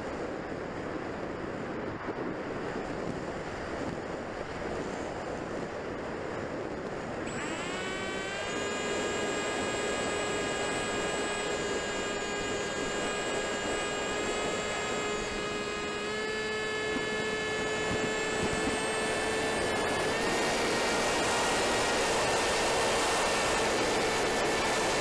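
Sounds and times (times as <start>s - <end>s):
electric motor and propeller whine: 0.0s - 25.0s.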